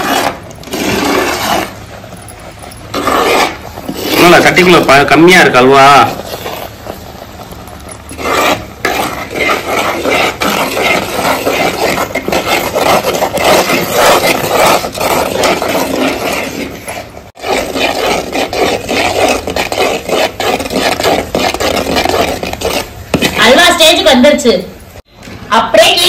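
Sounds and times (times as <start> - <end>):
metal ladle scraping a pot: 0.0 - 23.6.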